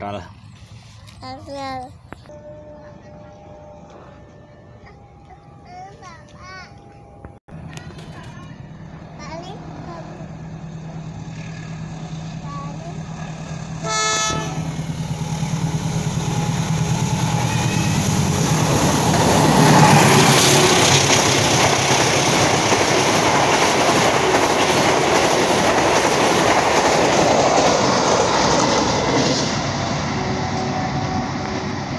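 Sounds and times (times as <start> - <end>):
locomotive engine drone: 1.8 - 31.9
train wheels on rail: 5.9 - 31.9.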